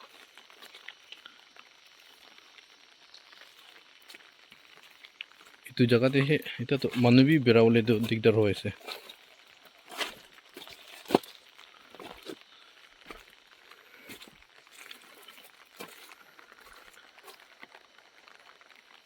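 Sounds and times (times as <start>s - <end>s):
footsteps walking: 0.0s - 18.5s
faint background hiss: 0.0s - 19.0s.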